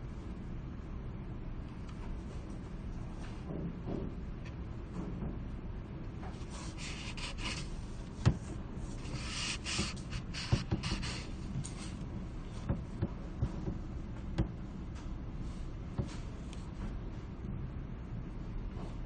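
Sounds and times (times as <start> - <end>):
low hum of room tone: 0.0 - 19.0.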